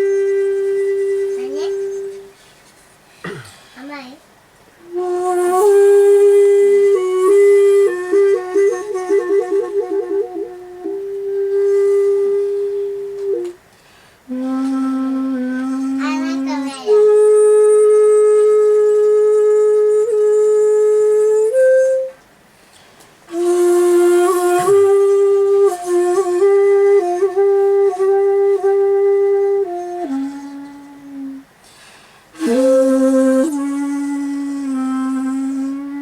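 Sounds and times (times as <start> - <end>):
shakuhachi flute solo: 0.0 - 2.4, 4.8 - 13.7, 14.3 - 22.2, 23.3 - 36.0.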